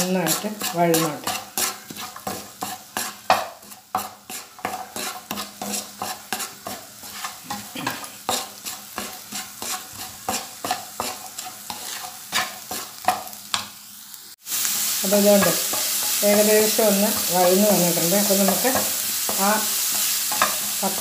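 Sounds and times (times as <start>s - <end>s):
spatula scraping frying pan: 0.0s - 13.8s, 14.6s - 21.0s
onions sizzling in oil: 0.0s - 21.0s.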